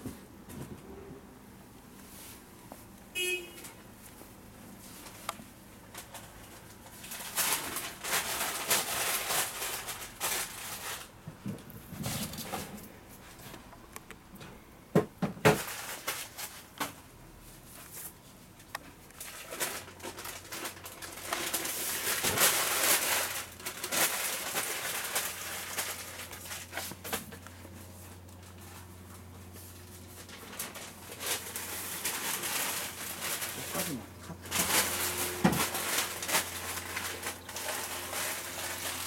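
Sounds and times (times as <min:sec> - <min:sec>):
plastic film rustling and crinkling: 0:04.0 - 0:13.7, 0:15.4 - 0:39.0.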